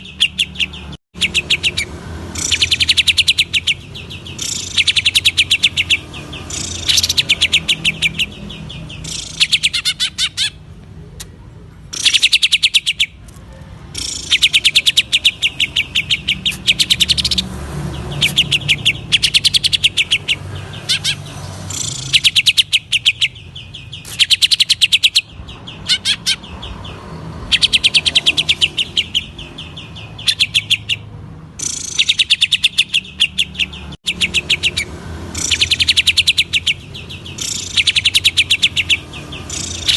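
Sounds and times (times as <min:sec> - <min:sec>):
bird singing sharp chattering notes: 0:00.0 - 0:10.7, 0:11.9 - 0:13.2, 0:13.8 - 0:39.9.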